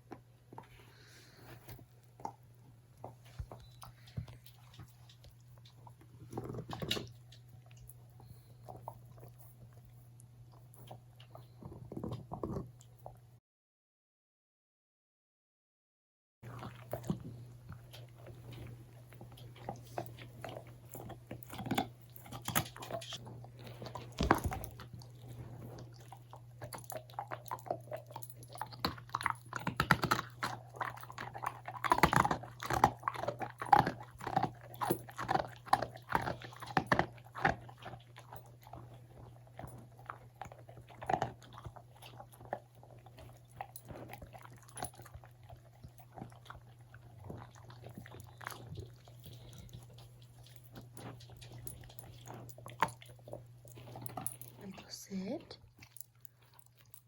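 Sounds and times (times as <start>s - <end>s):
dog crunching a cookie: 0.0s - 13.3s, 16.4s - 57.0s
faint low hum: 0.0s - 13.4s, 16.4s - 57.0s.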